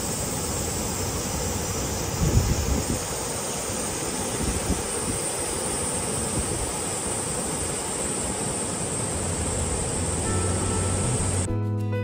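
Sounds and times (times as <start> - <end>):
river running over rocks: 0.0 - 11.5
waterfall rushing: 0.0 - 11.5.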